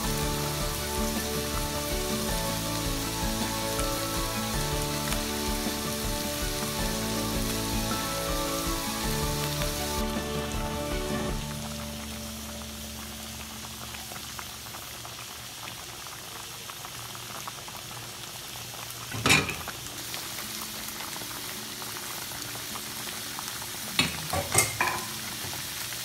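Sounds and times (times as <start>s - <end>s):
soup boiling and bubbling: 0.0s - 26.0s.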